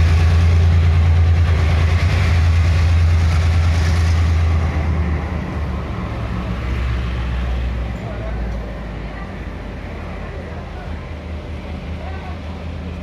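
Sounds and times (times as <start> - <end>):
locomotive engine droning: 0.0 - 13.0.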